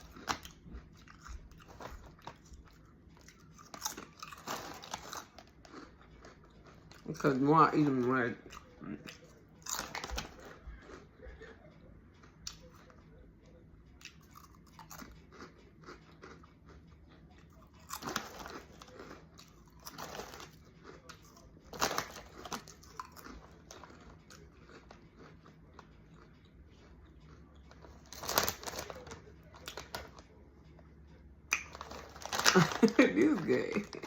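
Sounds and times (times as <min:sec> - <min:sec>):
crunchy chips being chewed: 0:00.0 - 0:30.9, 0:31.5 - 0:34.0.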